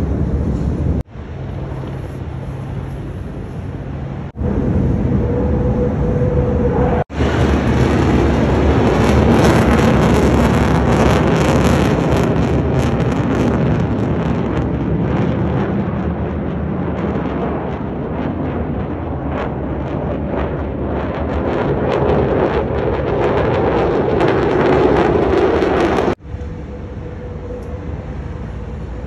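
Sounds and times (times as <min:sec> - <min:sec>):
jet engine roar with crackling: 0:00.0 - 0:29.0.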